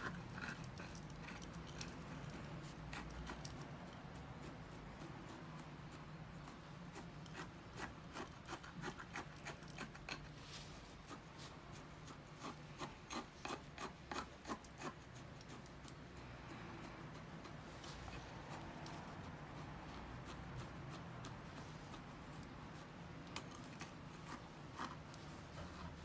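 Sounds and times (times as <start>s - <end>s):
chopstick scraping gritty soil: 0.0s - 26.0s.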